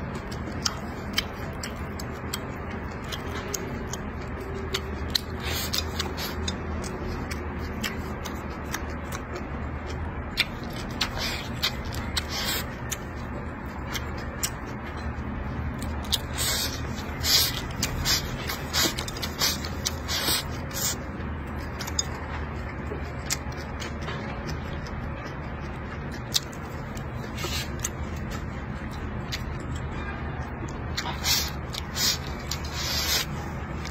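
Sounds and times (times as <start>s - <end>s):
chewing: 0.0s - 33.9s
steady low hum: 0.0s - 33.9s.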